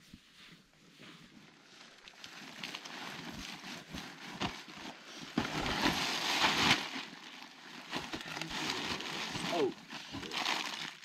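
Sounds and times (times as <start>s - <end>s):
camping gear rustling: 0.0s - 11.0s.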